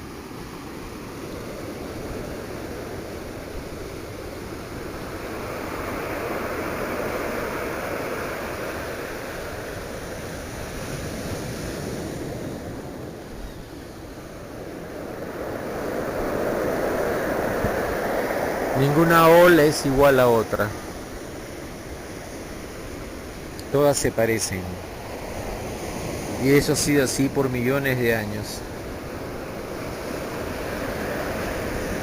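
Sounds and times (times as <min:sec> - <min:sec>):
ocean surf breaking on shore: 0:00.0 - 0:32.0.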